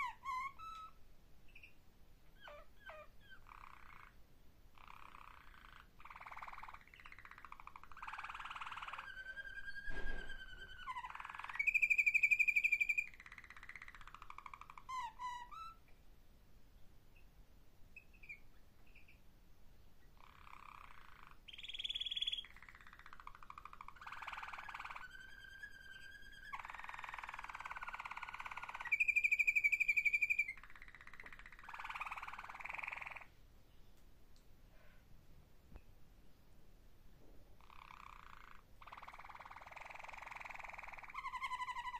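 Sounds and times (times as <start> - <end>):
canary singing: 0.0 - 15.9, 17.9 - 19.3, 20.0 - 33.9, 37.6 - 41.9.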